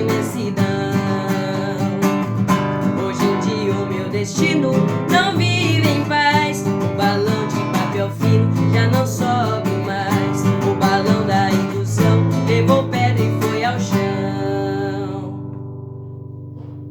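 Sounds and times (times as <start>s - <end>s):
acoustic guitar playing: 0.0s - 16.9s.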